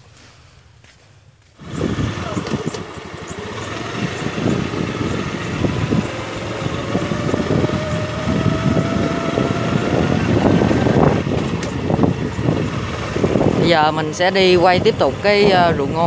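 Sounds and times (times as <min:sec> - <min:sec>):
motorbike engine whine: 0:01.6 - 0:16.0
wind rumbling on microphone: 0:01.6 - 0:16.0.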